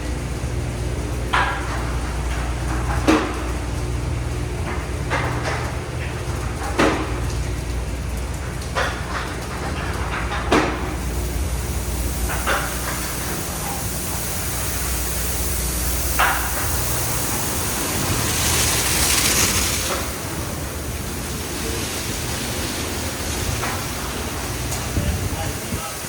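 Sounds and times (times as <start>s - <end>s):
car wash water spray and machinery: 0.0s - 26.0s.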